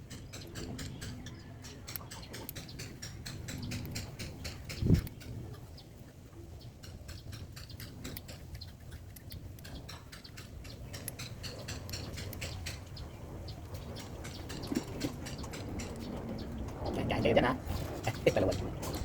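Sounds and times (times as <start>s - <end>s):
birds pecking clicks: 0.0s - 17.1s, 17.7s - 19.0s.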